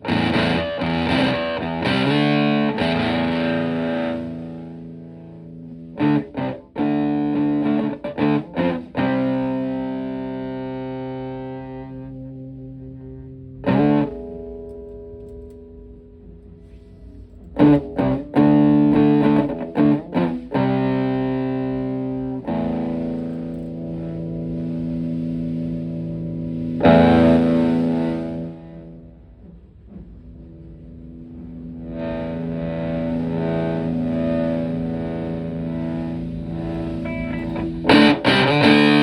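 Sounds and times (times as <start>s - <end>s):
fuzz-distorted guitar chords: 0.0s - 39.0s.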